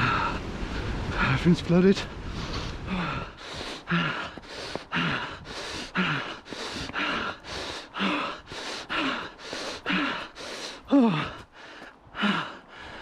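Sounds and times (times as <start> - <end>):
person gasping for breath: 2.4 - 13.0.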